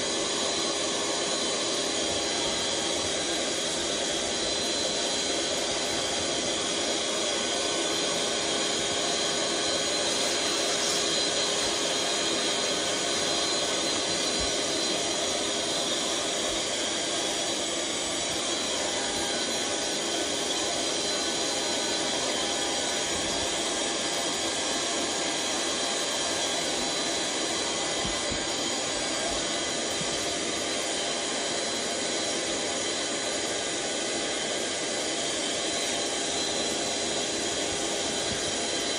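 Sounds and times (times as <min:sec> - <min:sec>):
electric air pump running: 0:00.0 - 0:38.9.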